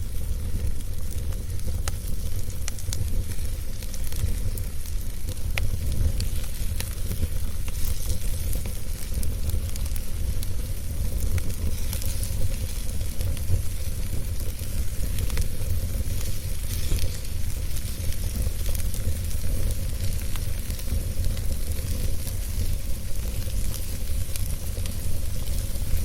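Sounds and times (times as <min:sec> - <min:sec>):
fire burning in a fireplace: 0:00.0 - 0:26.0
fire crackling and popping: 0:00.0 - 0:26.0.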